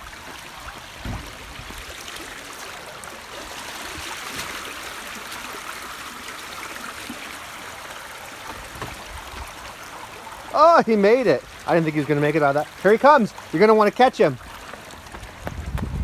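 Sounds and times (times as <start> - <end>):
rainwater rushing in gutter: 0.0 - 16.0.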